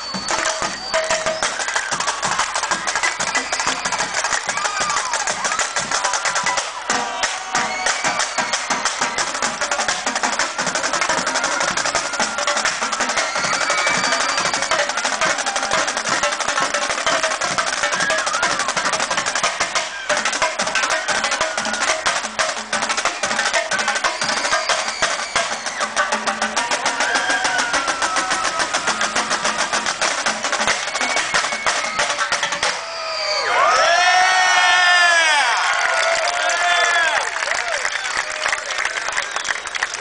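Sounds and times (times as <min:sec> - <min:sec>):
block strikes: 0:00.0 - 0:32.8
percussion band drumming: 0:00.0 - 0:33.0.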